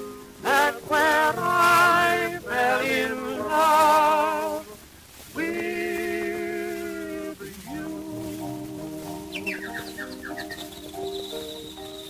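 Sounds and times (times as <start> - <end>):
piano: 0.0 - 12.0
male vocal duet: 0.4 - 10.2.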